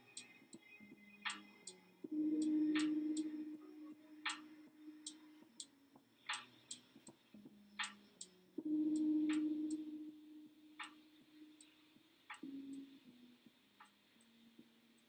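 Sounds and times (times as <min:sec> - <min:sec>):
light irregular ticks: 0:00.0 - 0:10.1, 0:10.8 - 0:15.0.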